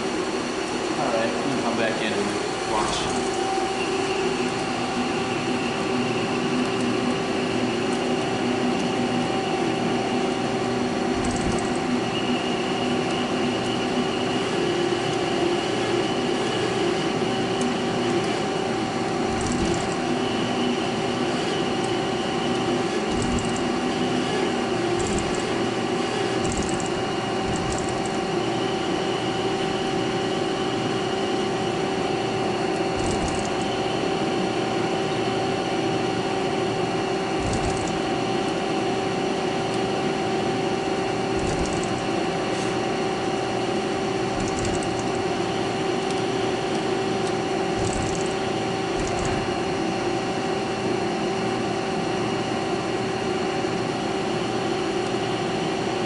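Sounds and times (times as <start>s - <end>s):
lathe machine hum: 0.0s - 56.0s.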